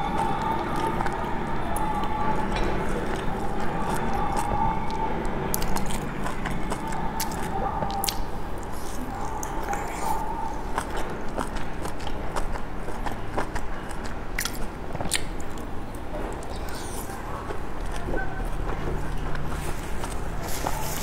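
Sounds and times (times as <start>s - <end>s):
wet chewing and lip smacks: 0.2s - 21.0s.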